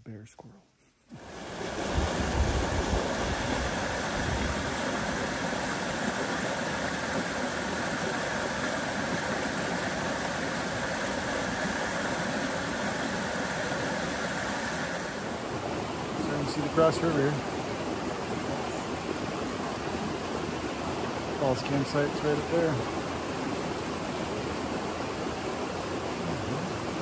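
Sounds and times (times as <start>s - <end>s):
river rapids rushing: 1.2s - 27.0s.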